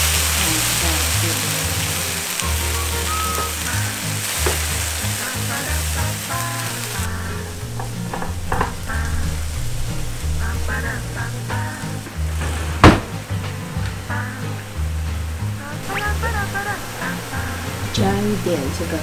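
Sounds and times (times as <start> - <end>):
background music with bass: 0.0 - 19.0
tomato sizzling in oil: 0.0 - 19.0.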